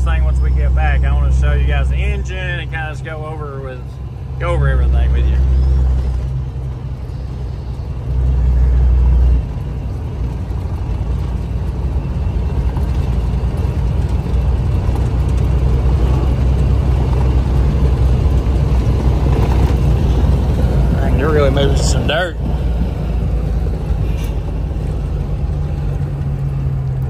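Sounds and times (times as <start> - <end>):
diesel truck engine and road drone: 0.0 - 27.0.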